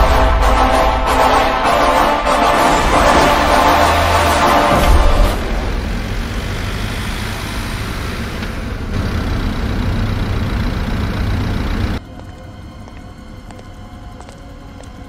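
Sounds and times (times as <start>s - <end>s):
road noise: 0.0s - 15.0s
truck engine rumbling: 0.0s - 15.0s.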